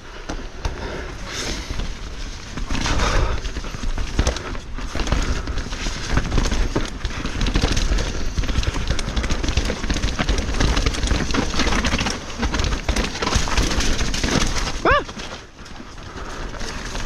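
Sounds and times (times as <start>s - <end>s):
tyres rumbling on rocky trail: 0.0s - 17.0s
bike frame and chain rattling: 1.2s - 17.0s.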